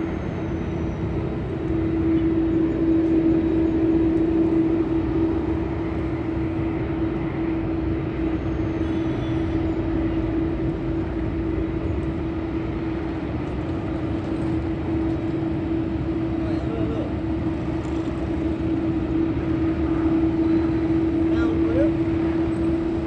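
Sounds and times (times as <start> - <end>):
aircraft engines humming: 0.0 - 23.0.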